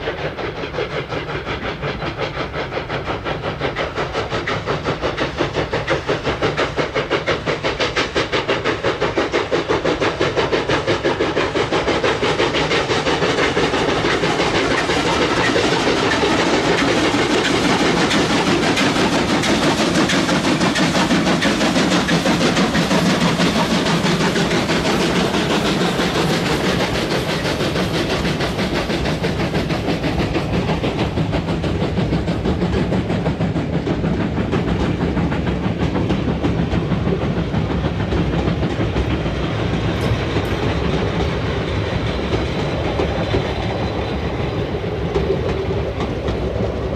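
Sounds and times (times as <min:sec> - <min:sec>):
steam locomotive exhaust beating: 0:00.0 - 0:46.9.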